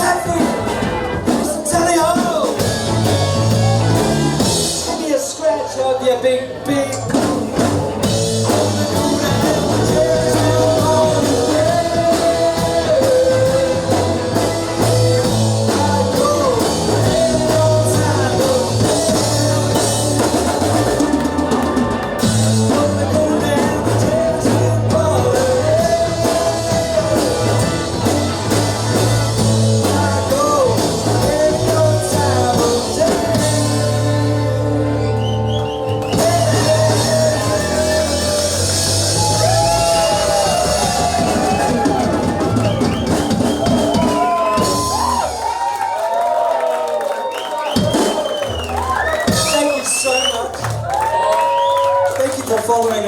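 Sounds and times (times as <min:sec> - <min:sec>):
bass line: 0:00.0 - 0:05.4, 0:06.0 - 0:45.7, 0:47.7 - 0:51.6
drum kit: 0:00.0 - 0:05.4, 0:06.8 - 0:53.0
rock band playing: 0:00.0 - 0:46.2, 0:46.8 - 0:53.0.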